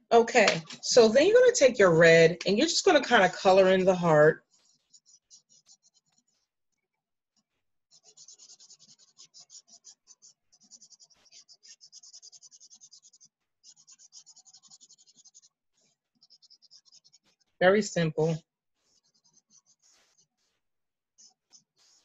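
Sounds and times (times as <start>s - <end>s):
marker scribbling on paper: 0.3s - 6.5s, 7.9s - 20.6s, 21.2s - 22.0s.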